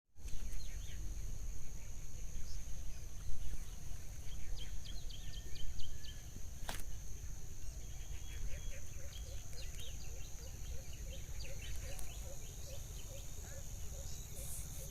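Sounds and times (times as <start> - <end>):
small birds chirping: 0.2 - 14.9.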